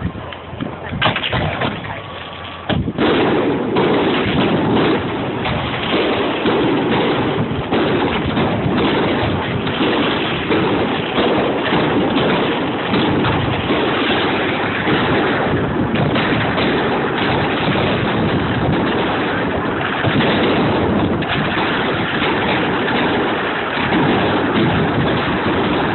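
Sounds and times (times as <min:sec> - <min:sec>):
fireworks bangs and crackles: 0:00.0 - 0:25.9.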